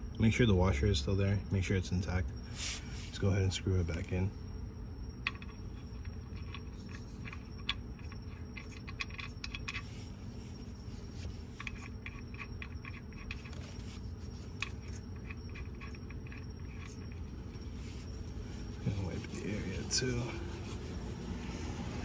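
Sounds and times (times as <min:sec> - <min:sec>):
faint high whine: 0:00.0 - 0:22.0
steady low hum: 0:00.0 - 0:22.0.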